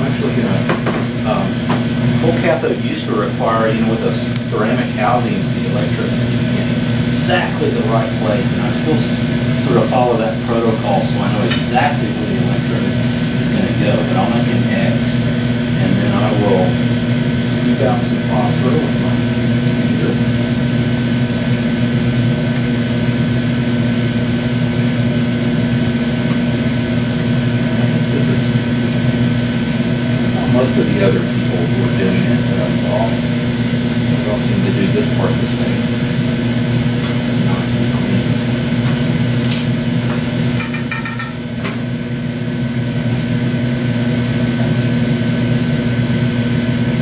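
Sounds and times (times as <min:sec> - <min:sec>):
machine drone with electrical hum: 0:00.0 - 0:47.0.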